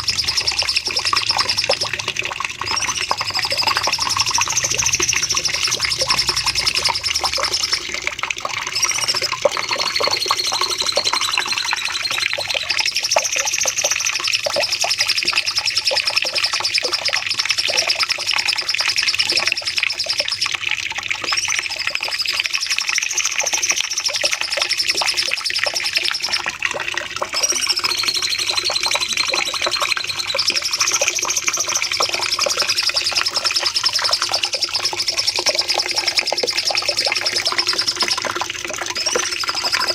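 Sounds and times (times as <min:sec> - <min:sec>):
bird singing rapid chirps: 0:00.0 - 0:08.0, 0:08.6 - 0:20.5, 0:27.1 - 0:39.9.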